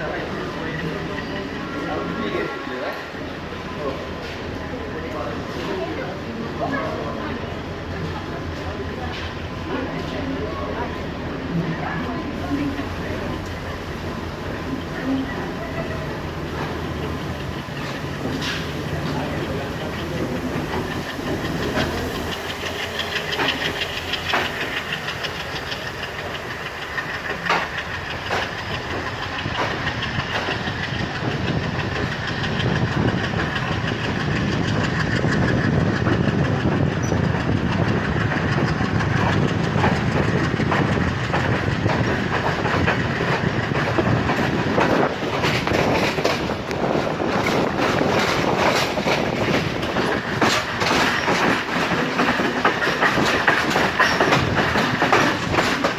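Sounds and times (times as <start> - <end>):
train wheels rumbling: 0.0 - 55.9
wheels clicking over rail joints: 0.0 - 55.9.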